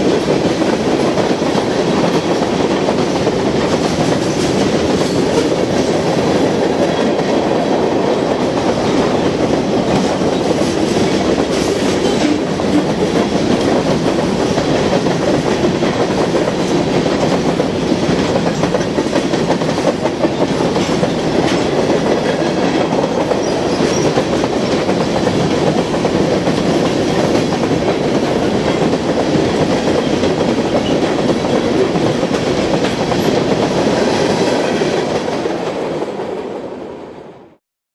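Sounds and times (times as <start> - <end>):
freight train wheels clattering: 0.0 - 36.6.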